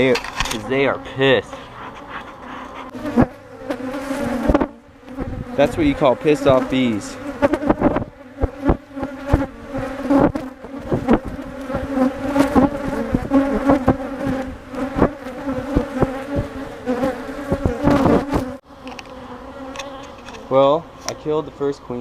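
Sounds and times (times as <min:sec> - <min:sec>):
swarm of bees buzzing: 0:00.6 - 0:20.6
single bees zipping past: 0:01.7 - 0:20.5.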